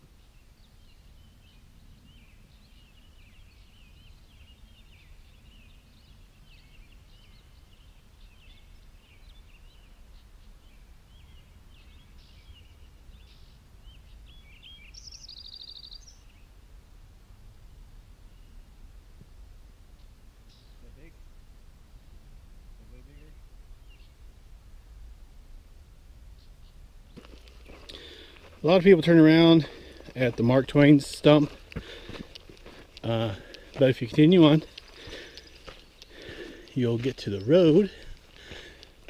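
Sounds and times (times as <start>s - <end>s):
birds chirping and twittering: 0.0s - 16.6s, 18.2s - 21.1s, 21.9s - 24.2s, 26.3s - 39.0s.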